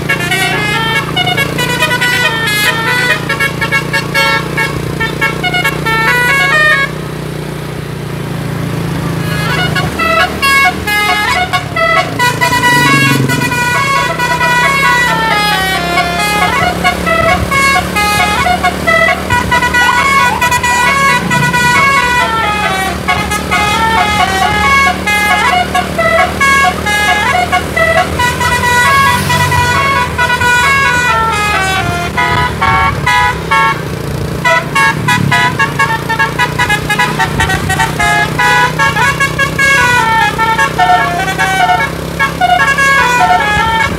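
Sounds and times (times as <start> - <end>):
musical air horn melody: 0.0 - 7.7, 8.6 - 43.9.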